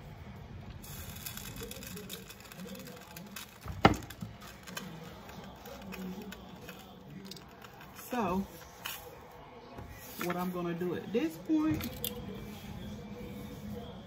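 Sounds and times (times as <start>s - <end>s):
faint background voices: 0.0s - 14.0s.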